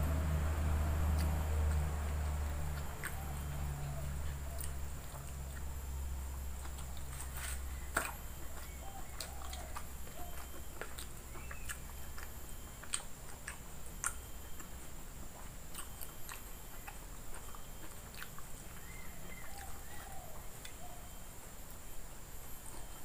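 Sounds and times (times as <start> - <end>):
person chewing food: 0.1 - 21.9, 22.5 - 23.0
lip and teeth clicks: 0.4 - 20.8.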